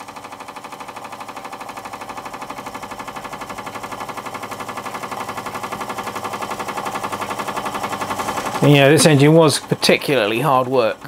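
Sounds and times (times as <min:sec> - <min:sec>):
model steam engine beating: 0:00.0 - 0:11.0.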